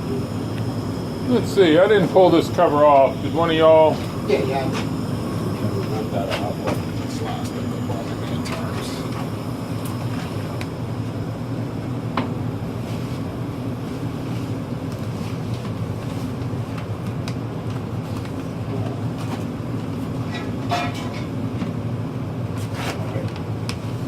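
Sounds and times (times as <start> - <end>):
gas water heaters rumbling: 0.0 - 24.0.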